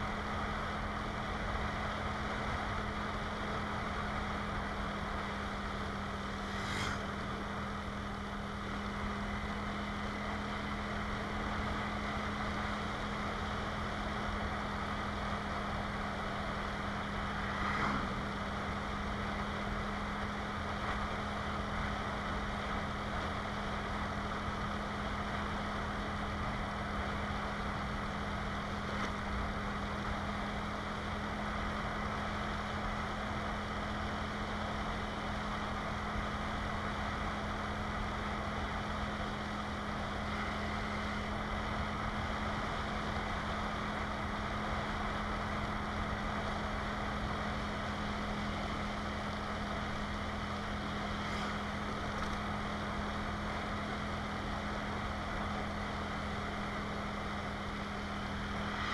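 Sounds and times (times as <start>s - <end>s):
motorcycle engine drone: 0.0s - 58.9s
road noise: 0.0s - 58.9s.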